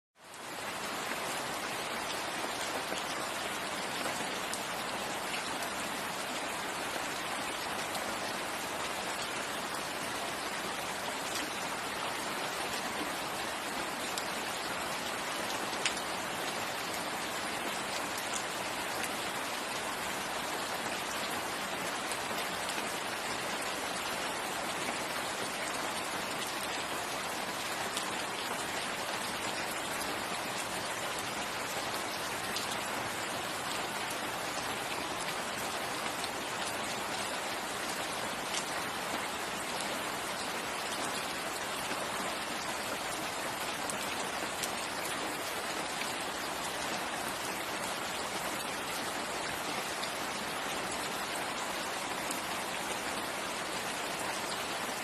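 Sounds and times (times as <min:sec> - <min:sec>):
steady rain hiss: 0:00.2 - 0:55.0.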